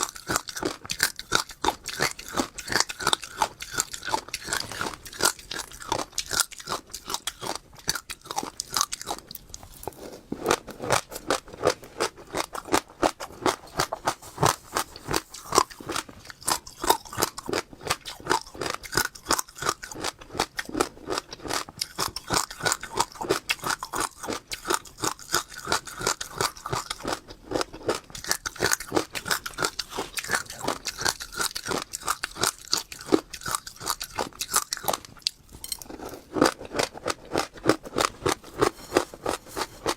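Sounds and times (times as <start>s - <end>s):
seeds crunching while chewing: 0.0s - 39.9s.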